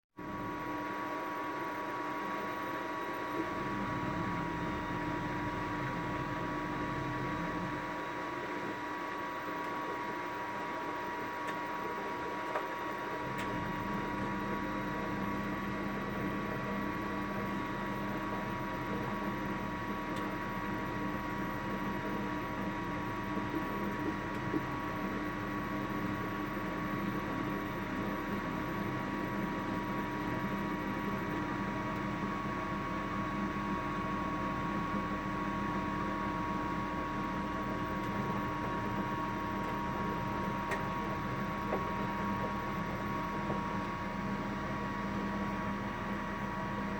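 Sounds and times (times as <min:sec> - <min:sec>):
washing machine spinning: 0:00.2 - 0:46.9.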